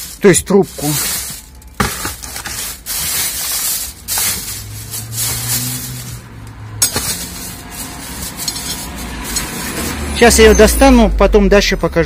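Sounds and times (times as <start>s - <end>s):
plastic bags rustling: 0.0s - 10.3s.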